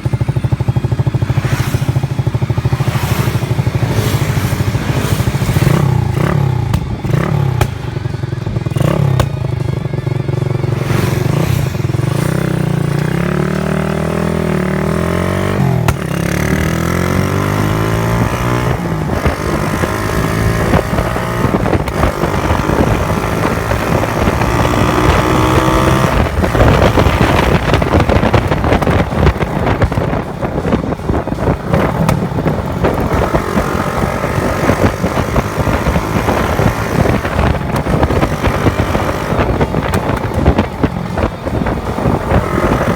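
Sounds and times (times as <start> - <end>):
wind rushing over microphone: 0.0 - 9.6, 10.6 - 42.9
motorcycle engine accelerating: 0.0 - 42.9.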